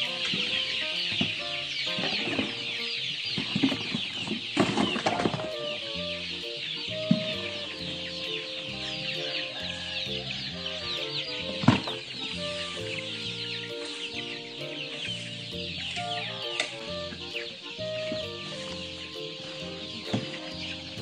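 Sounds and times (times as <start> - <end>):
background music: 0.0 - 21.0
chicks peeping: 0.0 - 21.0.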